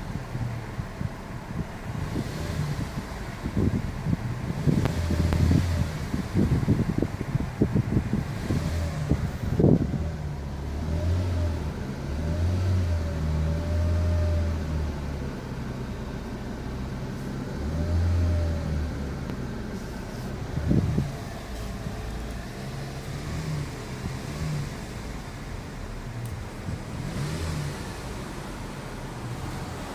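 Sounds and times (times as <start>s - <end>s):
car engine rumble with whine: 0.0s - 29.9s
car grinding noise: 1.8s - 14.9s, 17.1s - 29.9s.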